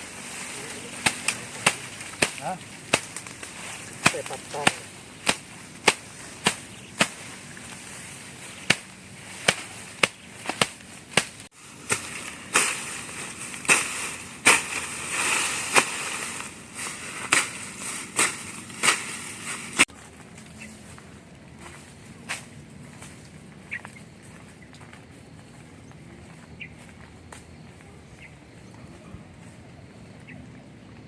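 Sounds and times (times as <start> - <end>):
branches and leaves rustling: 0.0 - 31.0.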